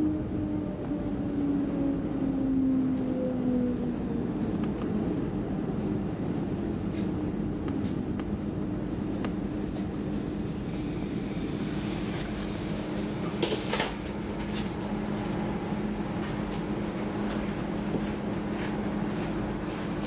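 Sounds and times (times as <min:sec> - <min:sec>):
train hum and running noise: 0:00.0 - 0:20.0.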